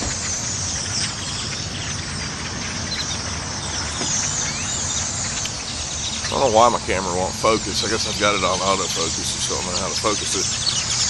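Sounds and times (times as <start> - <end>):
flock of birds chirping: 0.0 - 11.0
low steady rumble: 0.0 - 11.0.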